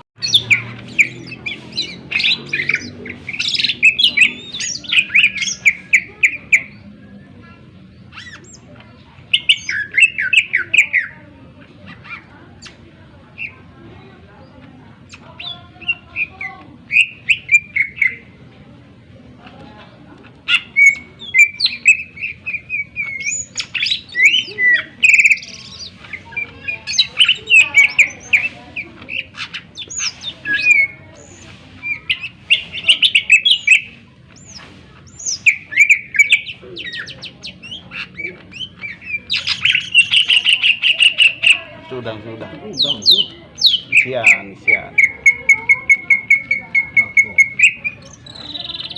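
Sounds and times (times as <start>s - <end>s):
bird singing chirps and trills: 0.2s - 48.9s.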